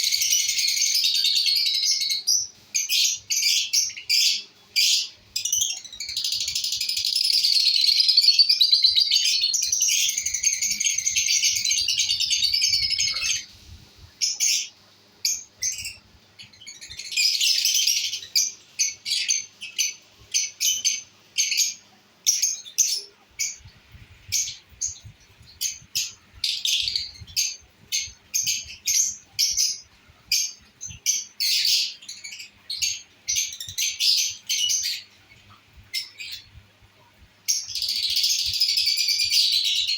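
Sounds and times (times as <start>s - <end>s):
lovebirds twittering: 0.0s - 36.6s, 37.4s - 39.9s.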